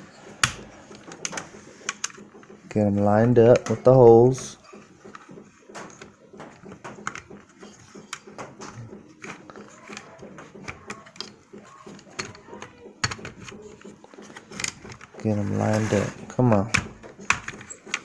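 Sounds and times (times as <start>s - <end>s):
plastic parts clicking: 0.4s - 15.7s, 16.3s - 18.0s.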